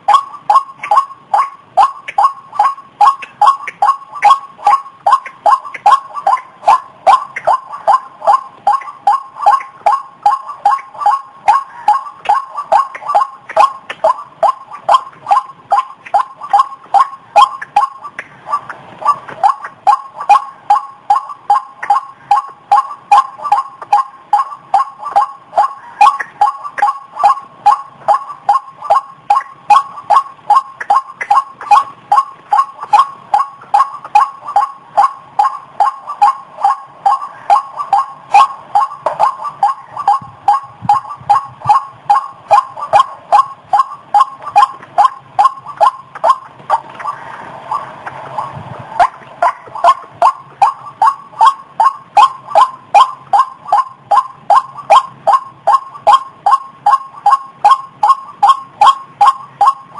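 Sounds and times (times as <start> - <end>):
waterhen calling: 0.0 - 59.9.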